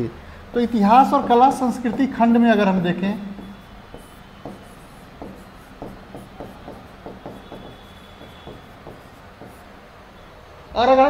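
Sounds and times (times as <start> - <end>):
chalk tapping and scratching on board: 0.9 - 9.8.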